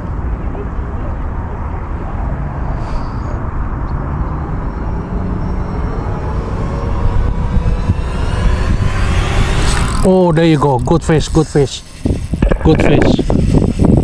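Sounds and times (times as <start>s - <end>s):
low outdoor rumble: 0.0s - 14.0s
faint rising whine: 1.6s - 14.0s.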